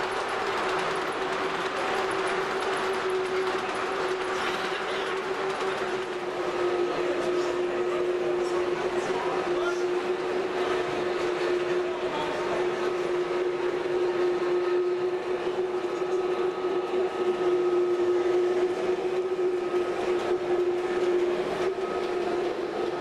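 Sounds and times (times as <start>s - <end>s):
model train humming: 0.0s - 23.0s.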